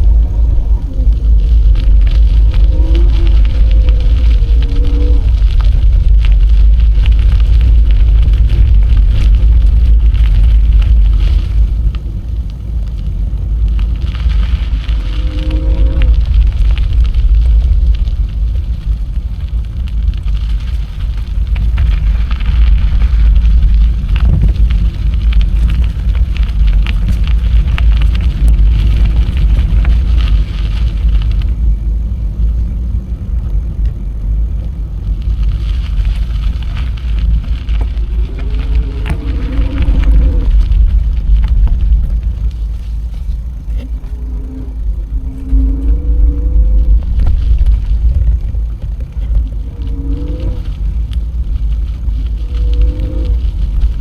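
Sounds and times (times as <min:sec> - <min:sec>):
bicycle riding rumble: 0:00.0 - 0:54.0
tyre noise hiss: 0:00.0 - 0:54.0
wind buffeting microphone: 0:00.0 - 0:54.0.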